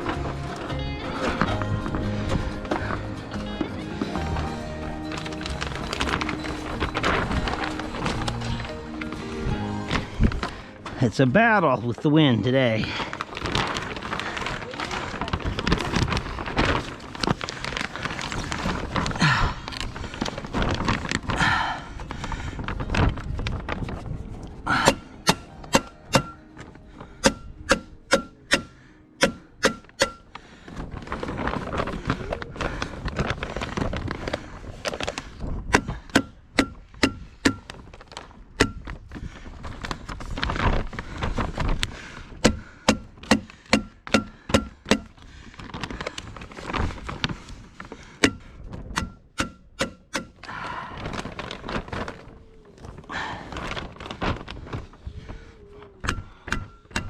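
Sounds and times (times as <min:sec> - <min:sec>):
plastic sheeting rustling: 0:00.0 - 0:28.4, 0:30.3 - 0:49.8, 0:50.4 - 0:56.9
wind: 0:00.0 - 0:57.0.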